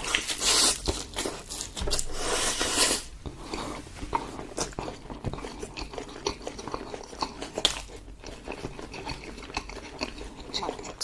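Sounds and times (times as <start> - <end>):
close-miked chewing: 0.0 - 11.0.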